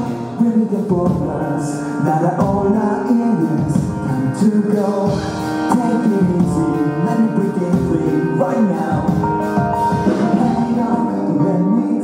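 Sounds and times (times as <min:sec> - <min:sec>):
live rock band: 0:00.0 - 0:12.0
man singing lead vocals: 0:00.0 - 0:12.0.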